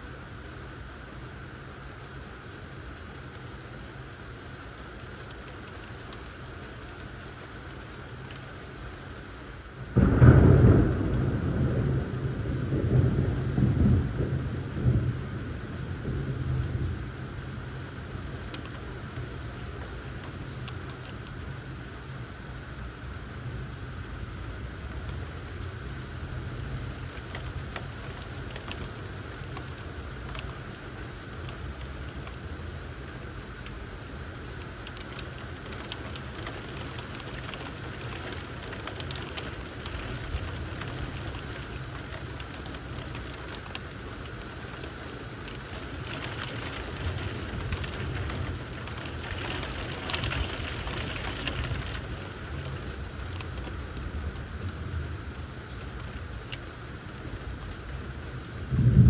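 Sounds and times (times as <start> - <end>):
low steady rumble: 0.0 - 59.0
raindrops ticking on a surface: 0.0 - 59.0
steady rain falling: 0.0 - 59.0.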